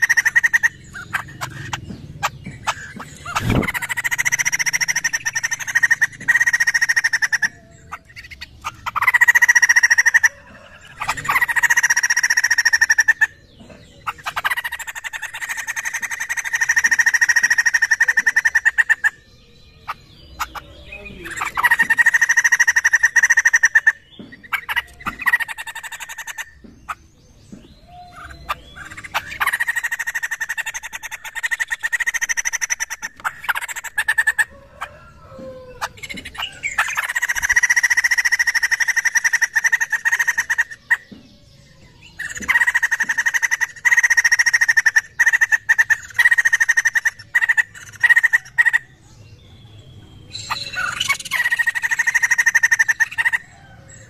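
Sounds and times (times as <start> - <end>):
bird chattering calls: 0.0 - 54.0.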